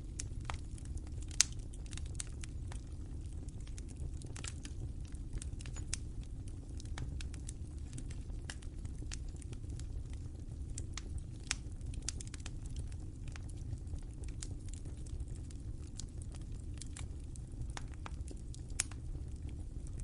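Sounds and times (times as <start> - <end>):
fire crackling with pops: 0.0 - 20.0.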